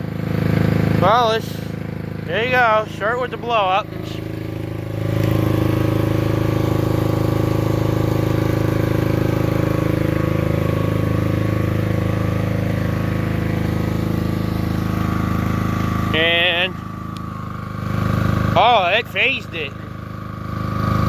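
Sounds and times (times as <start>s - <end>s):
generator engine running: 0.0s - 21.0s.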